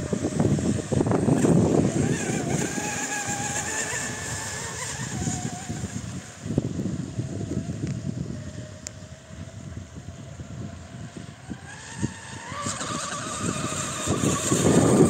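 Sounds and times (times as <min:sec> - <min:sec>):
electric motor high whine: 0:00.0 - 0:15.0.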